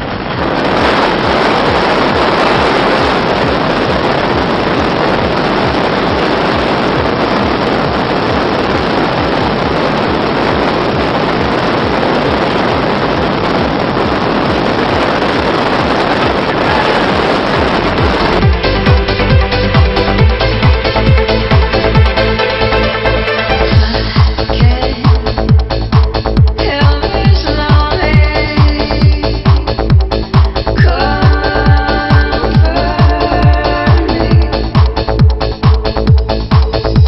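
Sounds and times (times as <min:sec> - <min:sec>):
wind rushing through open door: 0:00.0 - 0:34.8.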